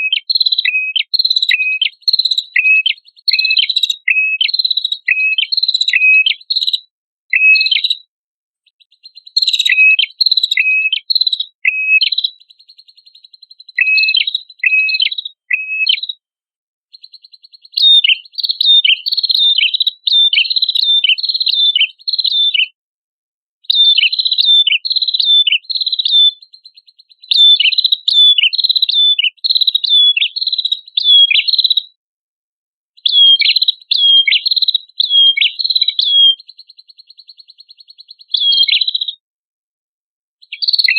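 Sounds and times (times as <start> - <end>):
songbird chirping: 0.0 - 8.0, 8.6 - 16.2, 16.9 - 22.7, 23.7 - 31.9, 33.0 - 39.2, 40.4 - 40.9.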